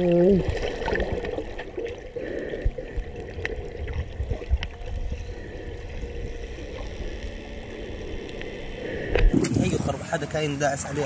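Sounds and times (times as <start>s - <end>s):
underwater rumble and rush: 0.0s - 11.0s.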